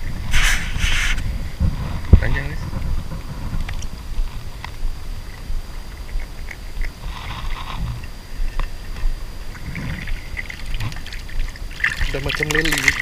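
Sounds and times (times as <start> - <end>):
river water rumbling: 0.0 - 13.0.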